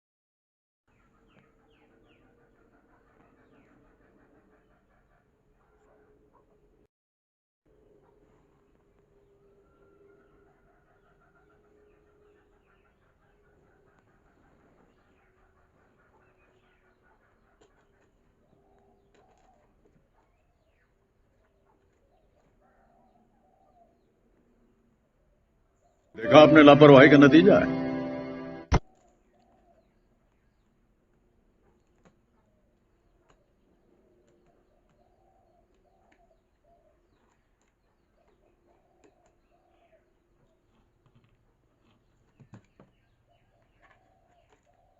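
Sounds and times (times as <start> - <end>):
faint bird chirps and coos: 0.9 - 6.9, 7.8 - 26.1, 28.9 - 44.9.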